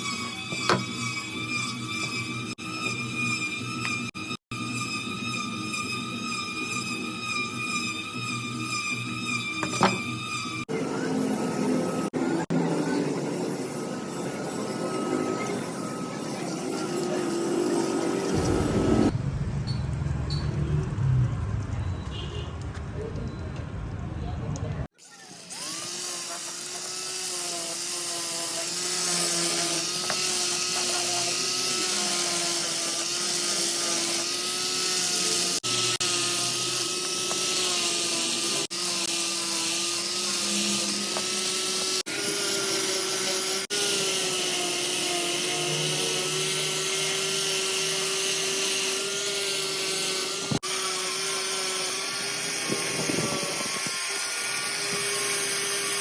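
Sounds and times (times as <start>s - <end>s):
power tool motor whining: 0.0s - 19.2s, 25.0s - 56.0s.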